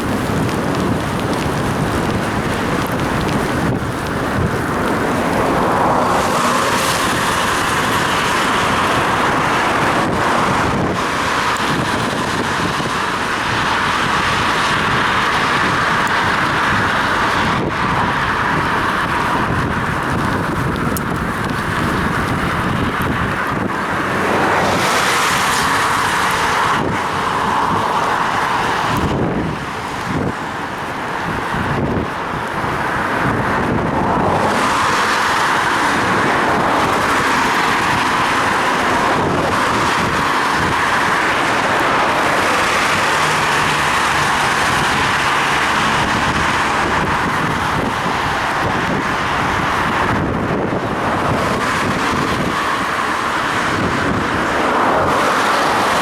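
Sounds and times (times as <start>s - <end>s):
car traffic: 0.0s - 56.0s
wind on microphone: 0.0s - 56.0s.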